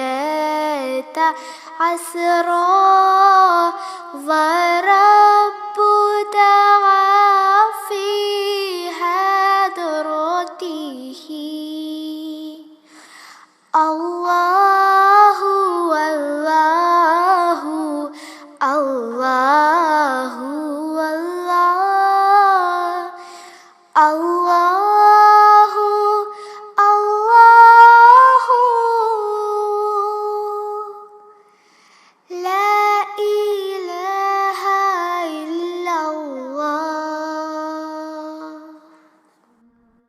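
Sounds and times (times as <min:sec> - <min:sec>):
girl singing unaccompanied: 0:00.0 - 0:13.0, 0:13.6 - 0:31.4, 0:32.2 - 0:40.0.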